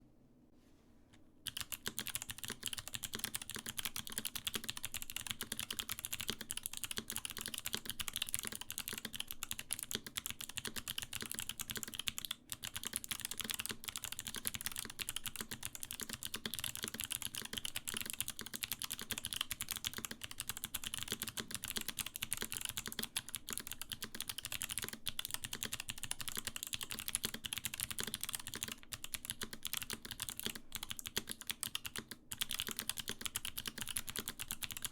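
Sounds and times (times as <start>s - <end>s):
fast typing on clicky keyboard: 1.5s - 34.9s.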